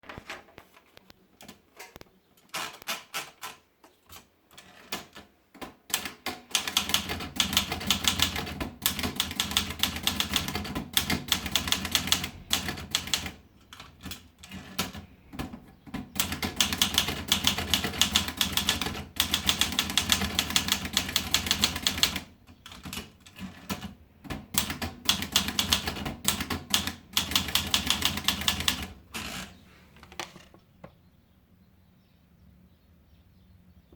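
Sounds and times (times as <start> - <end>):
manual typewriter keystrokes: 1.4 - 30.5.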